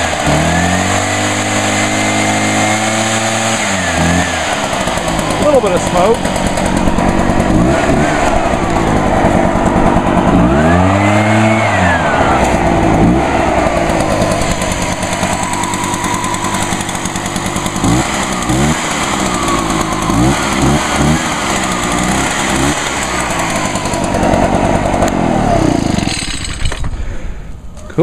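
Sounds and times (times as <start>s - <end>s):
leaf blower engine revving: 0.0s - 27.2s.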